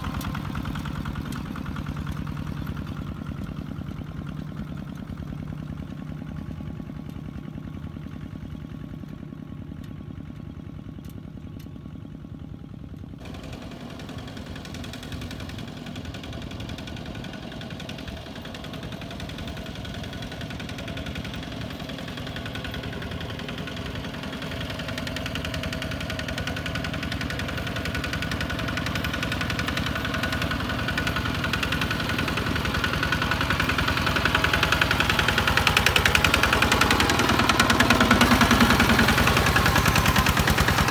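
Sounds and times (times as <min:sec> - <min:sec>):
diesel tractor engines chugging: 0:00.0 - 0:40.9.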